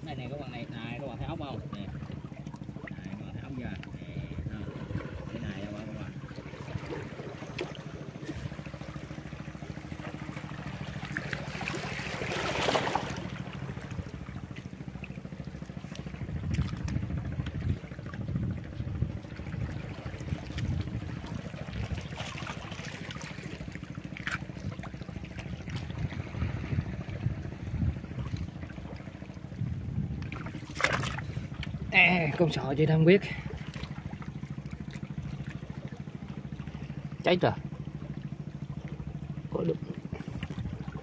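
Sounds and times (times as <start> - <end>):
rushing wash of water: 0.0 - 35.6
low steady hum: 0.0 - 41.0
water lapping among rocks: 0.0 - 41.0.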